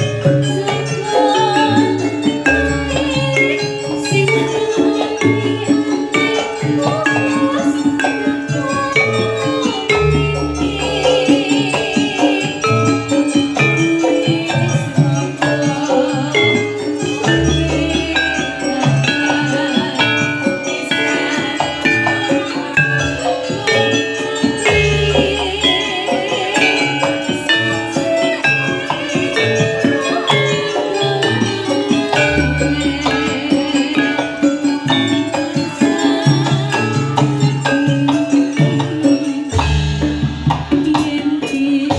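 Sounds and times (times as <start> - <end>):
drums: 0.0 - 41.9
metallophones struck with mallets: 0.0 - 41.9.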